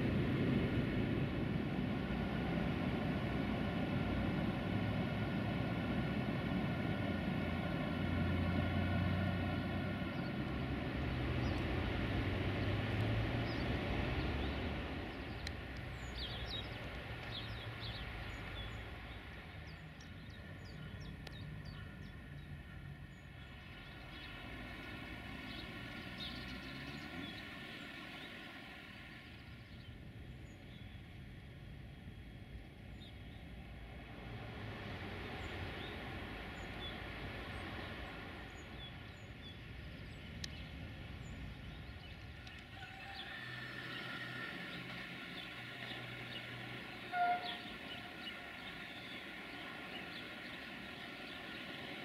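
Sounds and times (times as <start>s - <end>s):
diesel locomotive engine droning: 0.0s - 52.0s
birds chirping: 9.3s - 34.4s, 35.0s - 52.0s.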